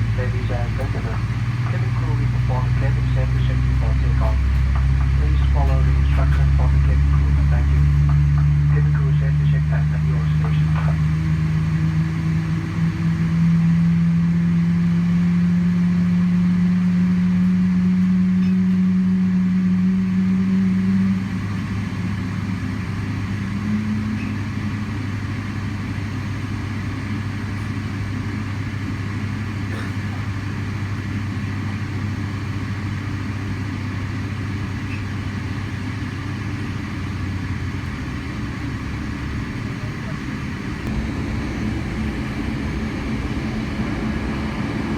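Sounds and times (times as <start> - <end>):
airplane cabin drone: 0.0 - 44.9.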